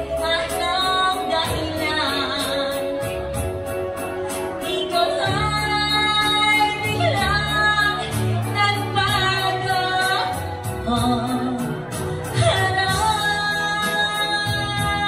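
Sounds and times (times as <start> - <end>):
backing track with bass line: 0.0 - 15.0.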